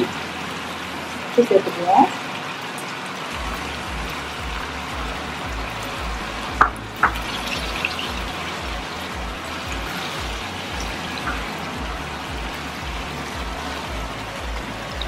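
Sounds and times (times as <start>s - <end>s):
sauce sizzling in a wok: 0.0s - 15.0s.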